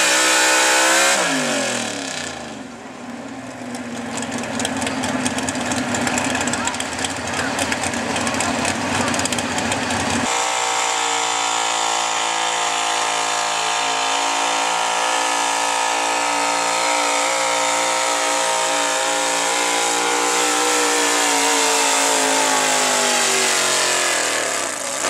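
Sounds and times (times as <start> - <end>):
truck engine revving high: 0.0 - 2.7, 4.2 - 25.0.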